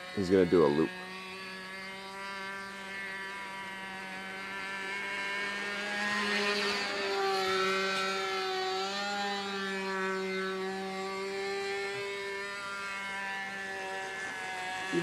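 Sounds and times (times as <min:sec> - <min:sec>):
model plane engine buzzing: 0:00.0 - 0:15.0.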